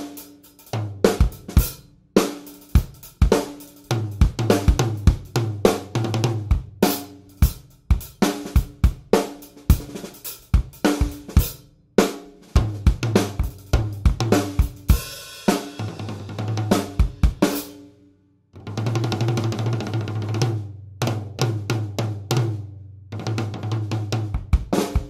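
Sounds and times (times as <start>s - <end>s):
drum kit playing groove: 0.0s - 17.8s, 18.7s - 25.0s.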